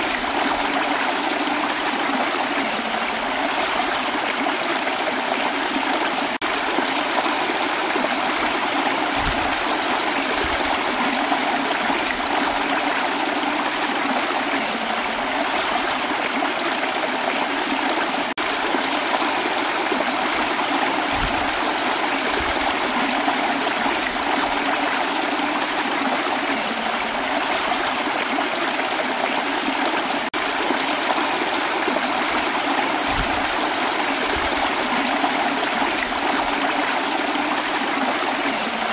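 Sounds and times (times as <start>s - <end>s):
stream rushing over stones: 0.0s - 38.9s.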